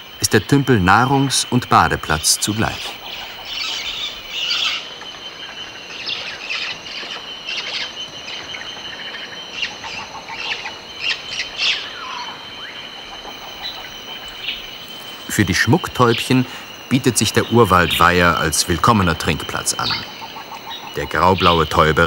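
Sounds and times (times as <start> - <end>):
birds chirping and calling: 0.0 - 22.0.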